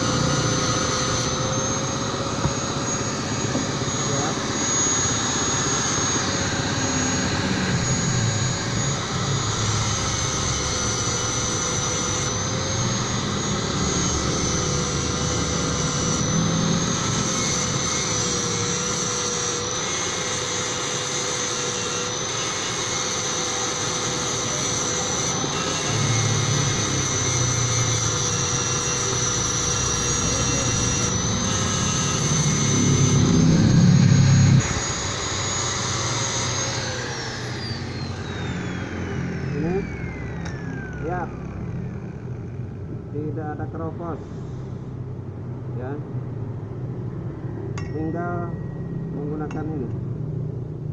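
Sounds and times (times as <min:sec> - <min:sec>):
angle grinder grinding metal: 0:00.0 - 0:44.2.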